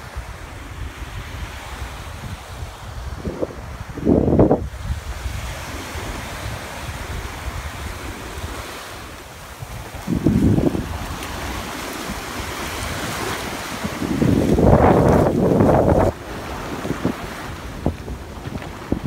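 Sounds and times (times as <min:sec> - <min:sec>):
surf washing onto beach: 0:00.0 - 0:19.0
wind buffeting microphone: 0:00.0 - 0:19.0.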